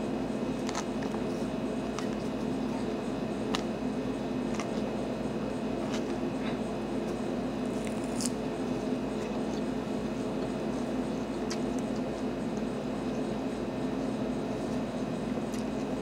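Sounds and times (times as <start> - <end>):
chewing crunches: 0.6 - 5.2, 5.8 - 16.0.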